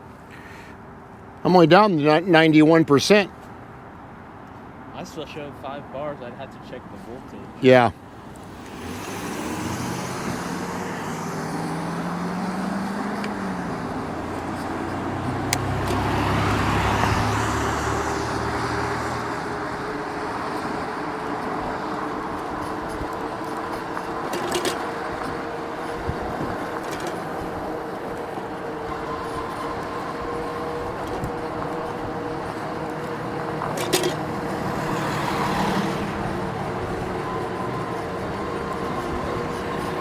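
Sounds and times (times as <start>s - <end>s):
steady road noise: 0.0s - 40.0s
vehicles passing: 0.0s - 40.0s.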